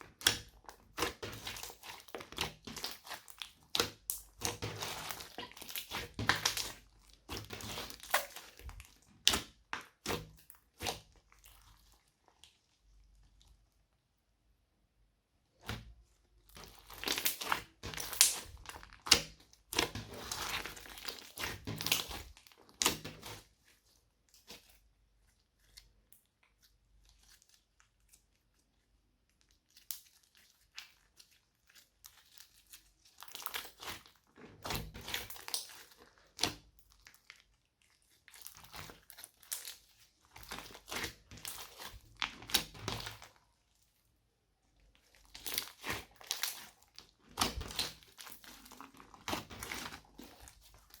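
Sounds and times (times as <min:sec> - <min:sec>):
hands squishing crackly slime: 0:00.0 - 0:14.4, 0:15.2 - 0:51.0.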